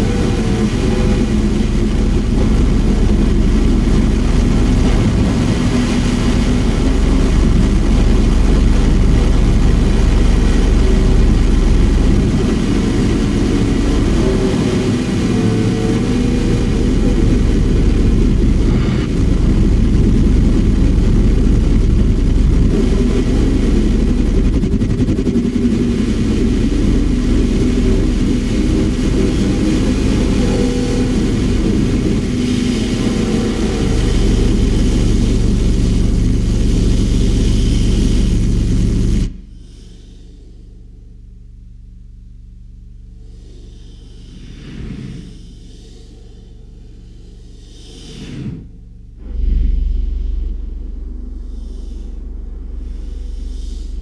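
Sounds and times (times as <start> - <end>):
faint wavering tones: 0.0 - 54.0
low rumbling metal spring drone: 0.0 - 54.0.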